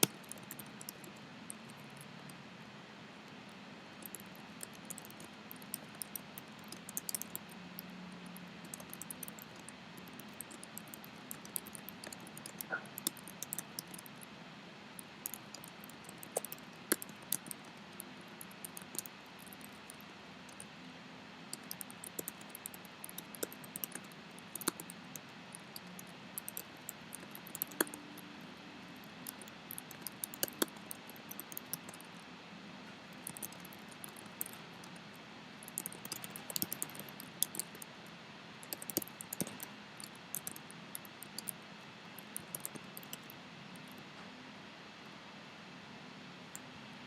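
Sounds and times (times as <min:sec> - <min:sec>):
keyboard typing: 0:00.0 - 0:02.4, 0:04.0 - 0:14.3, 0:15.0 - 0:20.7, 0:21.5 - 0:32.1, 0:33.1 - 0:35.0, 0:35.6 - 0:37.9, 0:38.6 - 0:41.6, 0:42.2 - 0:44.0.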